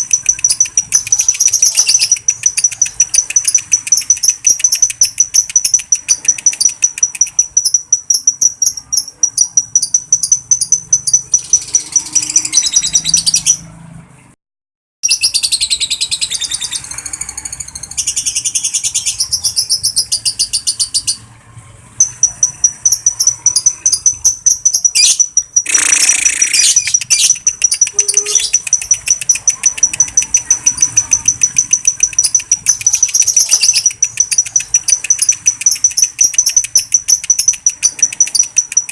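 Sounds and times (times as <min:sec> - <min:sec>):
bird chattering trill: 0:00.0 - 0:13.7, 0:15.0 - 0:21.3, 0:22.0 - 0:38.9.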